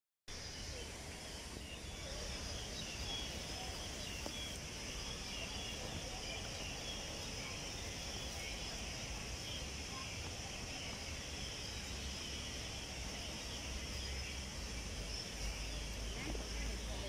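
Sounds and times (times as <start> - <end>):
distant small birds chirping: 0.3 - 17.0
faint outdoor background noise: 0.3 - 17.0.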